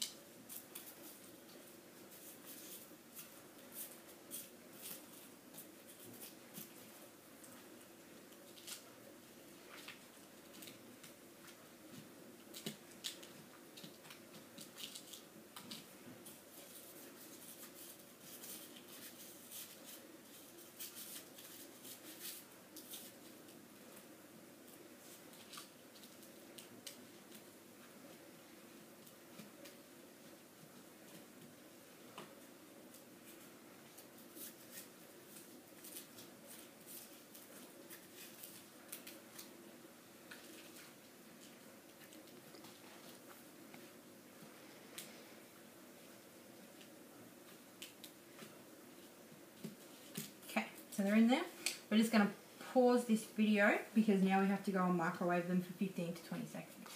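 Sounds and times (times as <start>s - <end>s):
low steady hum: 0.0s - 56.9s.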